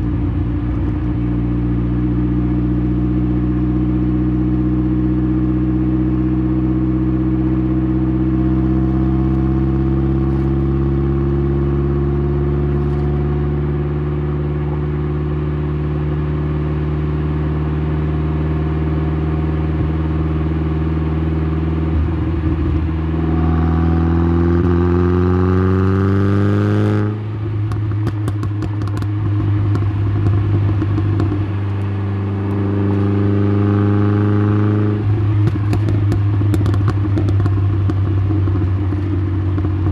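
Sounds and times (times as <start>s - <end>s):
exhaust crackling and clatter: 0.0s - 11.0s, 14.6s - 23.8s, 26.8s - 39.9s
car exhaust droning: 0.0s - 39.9s.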